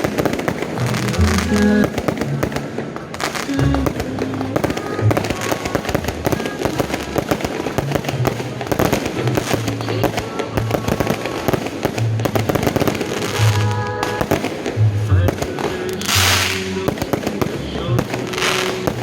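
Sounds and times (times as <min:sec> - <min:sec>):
fireworks cracking and banging: 0:00.0 - 0:19.0
music playing: 0:00.0 - 0:19.0.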